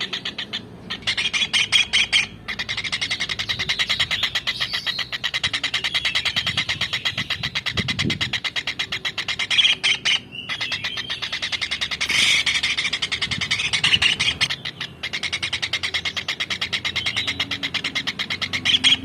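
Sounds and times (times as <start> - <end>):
kingfisher chirping: 0.0 - 19.0.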